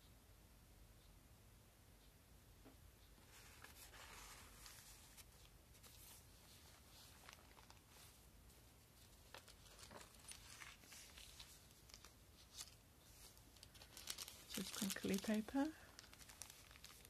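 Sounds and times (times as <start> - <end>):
soft clicks of pages: 2.0 - 17.0
paper rustling: 3.3 - 17.0.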